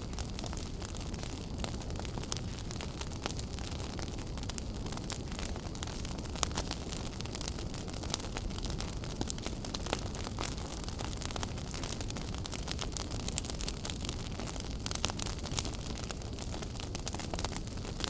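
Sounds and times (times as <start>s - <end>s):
wood fire crackling in fireplace: 0.0s - 18.0s.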